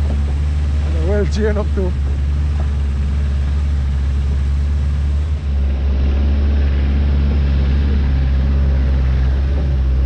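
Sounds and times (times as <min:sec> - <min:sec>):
road and wind noise: 0:00.0 - 0:10.0
vehicle engine droning: 0:00.0 - 0:10.0.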